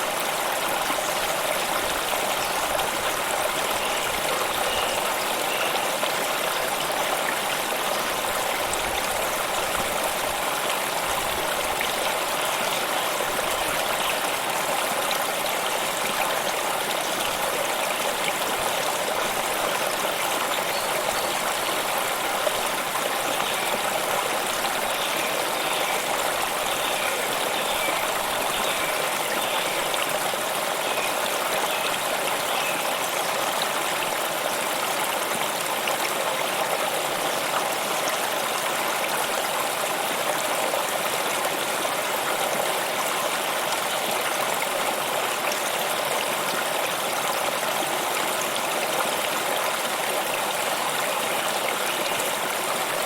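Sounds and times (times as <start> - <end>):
stream of running water: 0.0 - 53.0.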